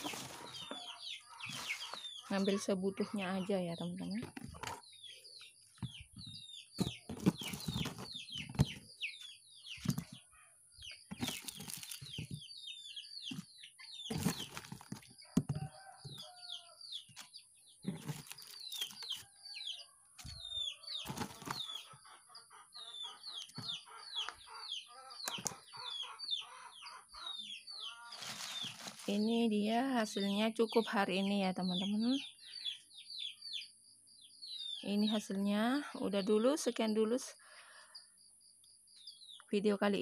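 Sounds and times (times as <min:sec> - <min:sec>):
birds chirping rapidly: 0:00.0 - 0:36.8.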